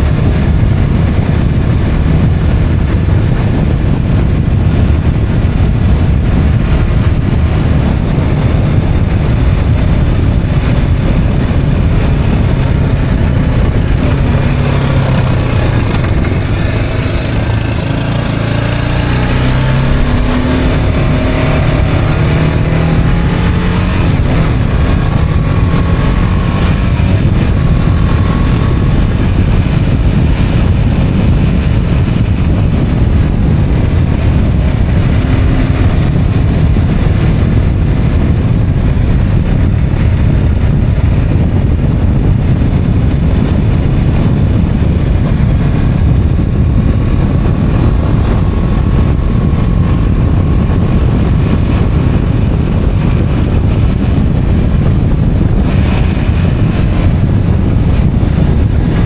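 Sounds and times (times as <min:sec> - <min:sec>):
motorcycle engine revving: 0:00.0 - 0:59.0
wind on microphone: 0:00.0 - 0:59.0.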